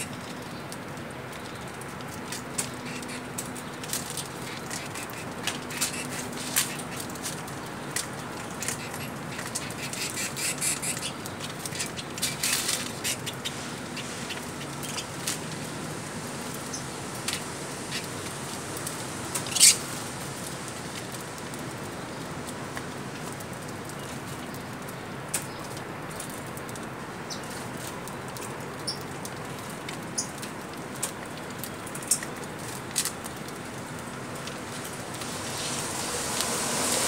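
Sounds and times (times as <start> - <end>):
birds pecking and hopping: 0.0 - 37.0.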